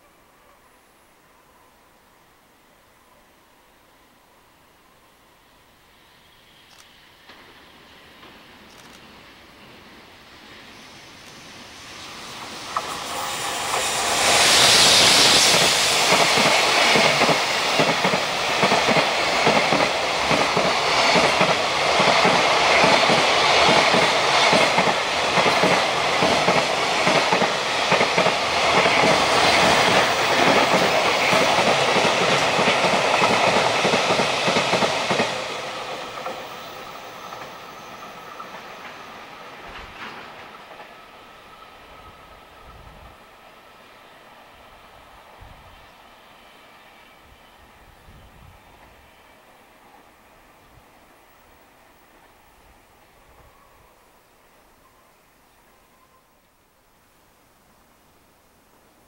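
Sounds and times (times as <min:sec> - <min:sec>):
electric locomotive passing: 0:01.3 - 0:56.4.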